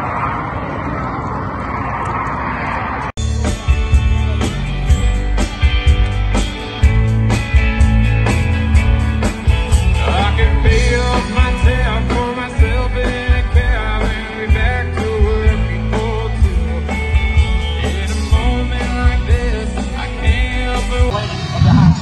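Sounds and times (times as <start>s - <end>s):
rock band playing: 3.2s - 22.0s.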